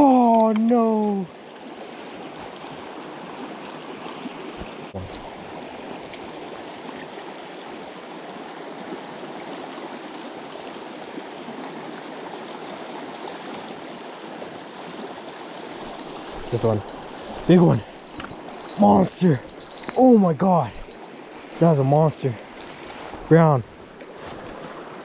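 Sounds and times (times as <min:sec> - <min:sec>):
mountain stream flowing: 0:00.0 - 0:25.0.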